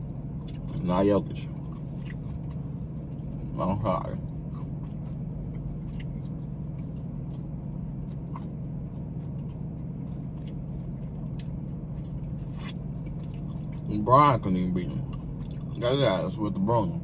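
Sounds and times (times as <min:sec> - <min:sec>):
wet chewing and nibbling: 0:00.0 - 0:16.6
steady low hum: 0:00.0 - 0:17.0.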